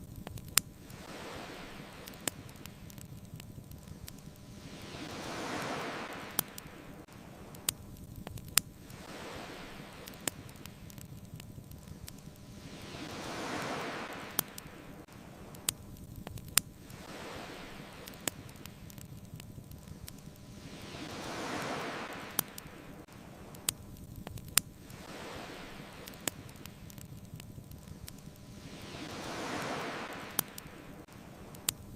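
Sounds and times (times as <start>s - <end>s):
low rumble of surf: 0.0s - 31.9s
wood fire crackling and popping: 0.0s - 31.9s
waves washing on a beach: 0.4s - 31.9s.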